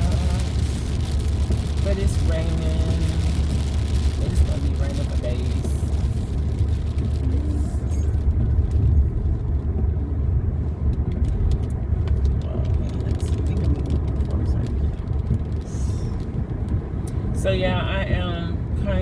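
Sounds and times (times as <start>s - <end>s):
rain ticking on car: 0.0s - 19.0s
road rumble inside car: 0.0s - 19.0s.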